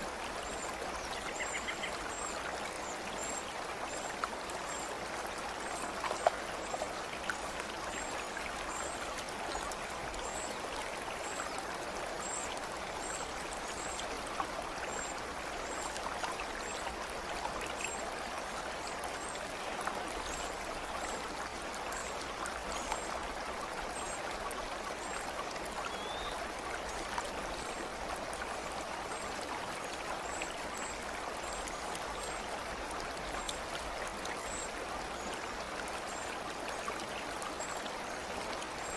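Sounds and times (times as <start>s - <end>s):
stream water babbling: 0.0s - 38.9s
water drips and splashes: 0.0s - 38.9s.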